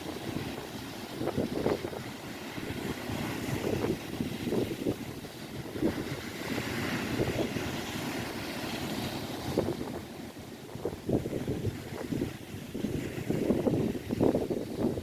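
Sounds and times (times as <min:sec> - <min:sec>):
waves washing on shore: 0:00.0 - 0:15.0
wind buffeting microphone: 0:00.0 - 0:15.0.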